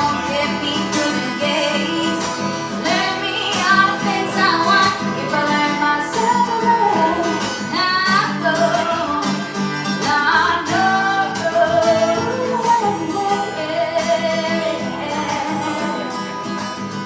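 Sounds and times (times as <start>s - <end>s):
woman singing: 0.0s - 16.7s
strummed acoustic guitar: 0.0s - 17.0s.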